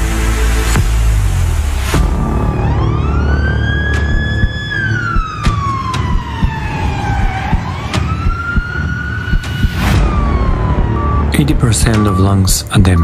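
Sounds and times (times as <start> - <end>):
emergency vehicle siren wailing: 2.0 - 13.0.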